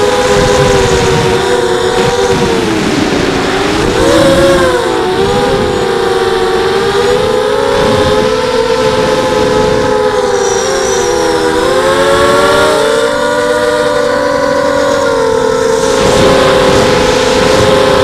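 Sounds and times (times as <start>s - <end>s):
drone motors whining: 0.0s - 18.0s
wind noise: 0.0s - 18.0s.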